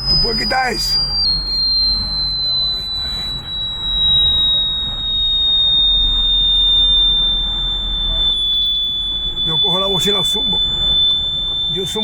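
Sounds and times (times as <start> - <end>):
car interior rumble: 0.0 - 12.0
shrill electronic tone: 0.0 - 12.0.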